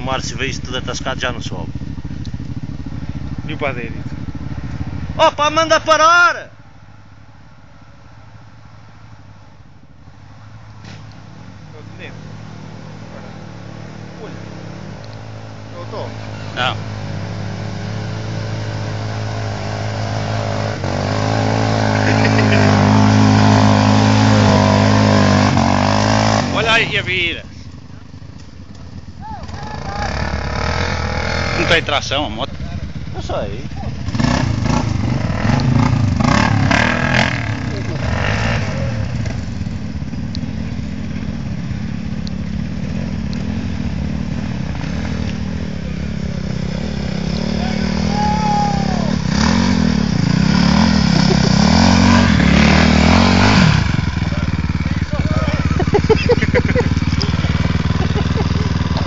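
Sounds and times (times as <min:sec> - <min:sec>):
motorcycle engine at high revs: 0:00.0 - 0:05.5, 0:10.8 - 0:59.0.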